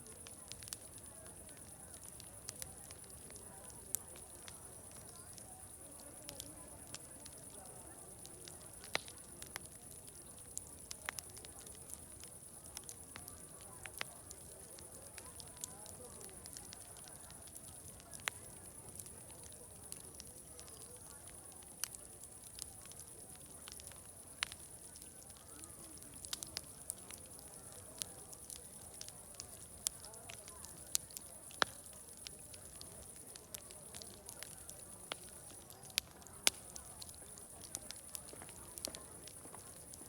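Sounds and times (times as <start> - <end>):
distant crowd chatter: 0.0 - 40.0
fire crackling and popping: 0.0 - 40.0.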